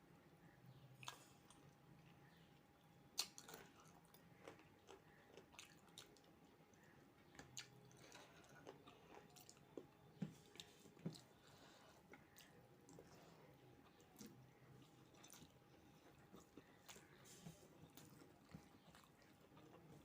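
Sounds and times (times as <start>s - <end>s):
person chewing food: 1.0s - 2.4s, 3.2s - 20.0s.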